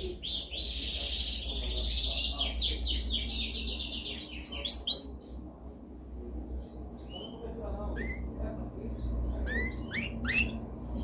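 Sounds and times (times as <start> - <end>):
canary singing trills: 0.0 - 5.5, 6.6 - 11.0
steady low hum: 0.0 - 11.0.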